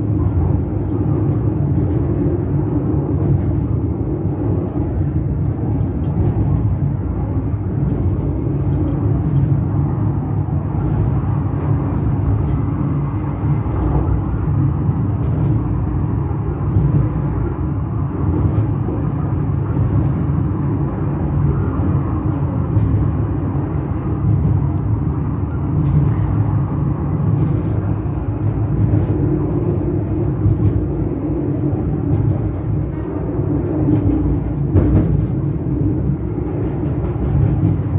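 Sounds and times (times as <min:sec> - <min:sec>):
funicular car rumbling on rails: 0:00.0 - 0:37.9.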